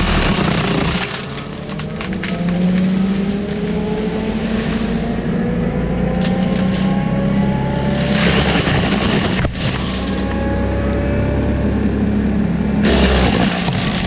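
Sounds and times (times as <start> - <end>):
mulching machine engine drone: 0.0 - 14.0.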